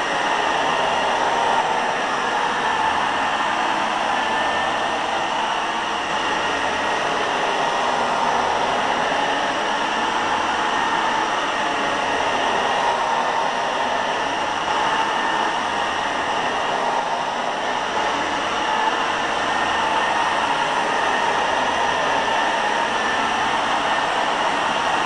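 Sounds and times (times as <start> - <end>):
carpet cleaner motor whirring: 0.0 - 25.0.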